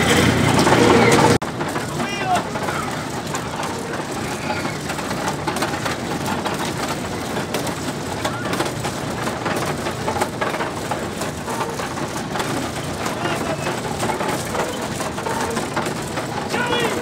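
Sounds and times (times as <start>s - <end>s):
carousel ride running: 0.0s - 17.0s
small clicks and rattles: 0.1s - 17.0s.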